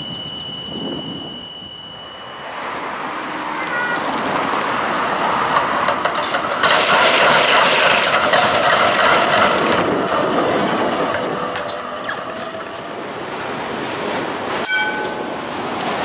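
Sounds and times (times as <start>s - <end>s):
tram wheels rumbling over rails: 2.4s - 16.0s.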